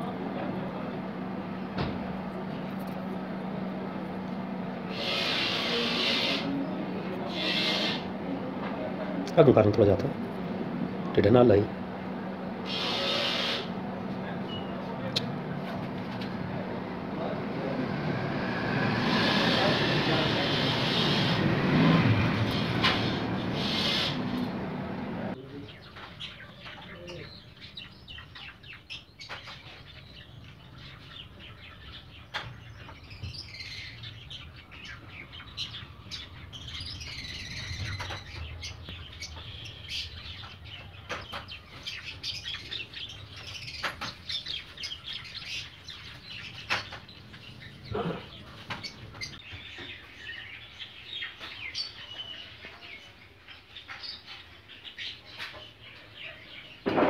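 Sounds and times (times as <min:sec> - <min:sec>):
small birds chirping: 0:00.3 - 0:18.5, 0:25.3 - 0:56.9.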